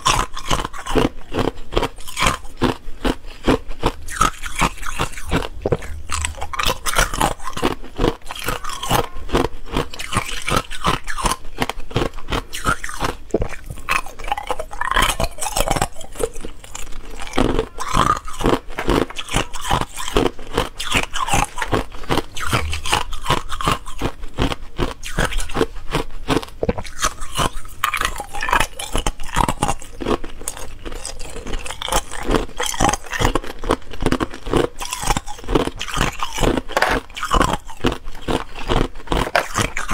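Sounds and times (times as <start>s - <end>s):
ice cubes crunching when chewed: 0.0s - 39.9s.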